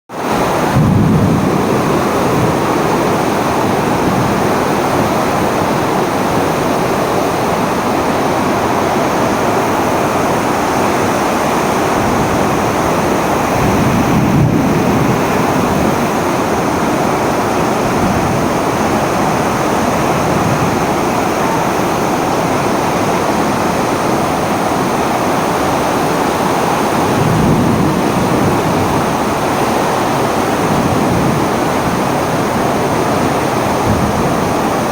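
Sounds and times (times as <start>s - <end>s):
storm wind rushing: 0.2s - 34.9s
wind buffeting microphone: 0.2s - 34.9s.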